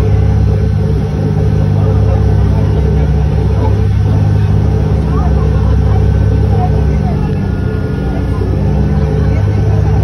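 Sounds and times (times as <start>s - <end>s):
boat engine droning: 0.0s - 10.0s
rushing water wash: 0.0s - 10.0s.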